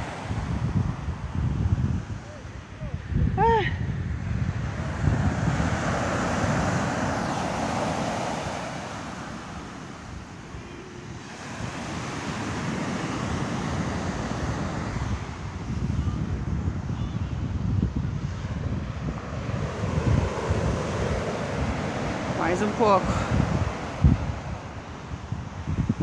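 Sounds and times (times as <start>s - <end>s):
small waves breaking on beach: 0.0s - 26.0s
wind buffeting microphone: 0.0s - 26.0s.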